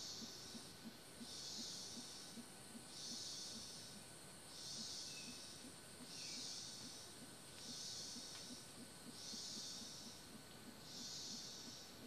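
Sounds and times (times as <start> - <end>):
insect high-pitched hissing pulses: 0.0 - 12.0.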